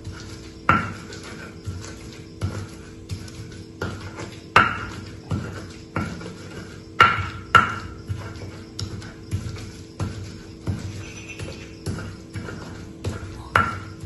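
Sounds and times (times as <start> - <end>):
stone pestle grinding in mortar: 0.0 - 14.0.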